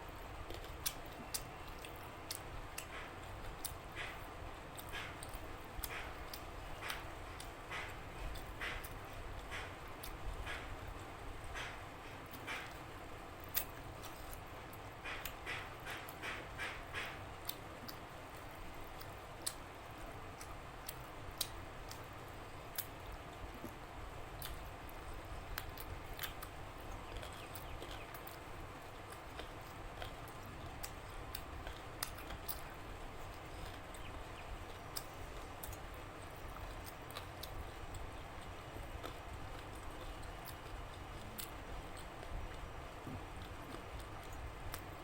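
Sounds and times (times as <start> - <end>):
low background noise: 0.0 - 45.0
chewing: 0.4 - 19.7, 20.4 - 44.9.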